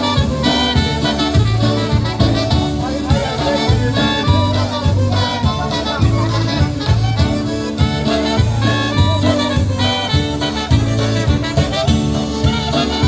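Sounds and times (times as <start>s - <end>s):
bass notes: 0.0s - 13.0s
drum hits: 0.0s - 13.0s
polka band playing: 0.0s - 13.0s.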